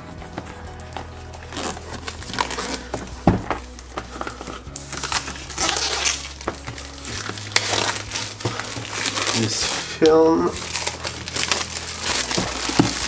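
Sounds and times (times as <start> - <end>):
cardboard sleeve rustling: 0.0 - 13.0.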